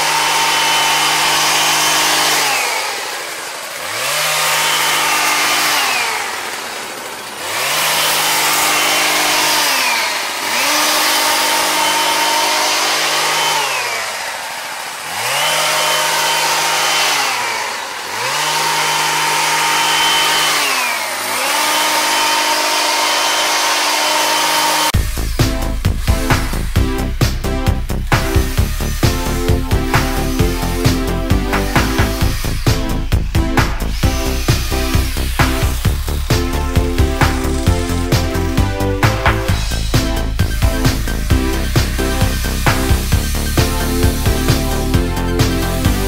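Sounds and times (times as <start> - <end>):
hedge trimmer engine revving: 0.0 - 46.0.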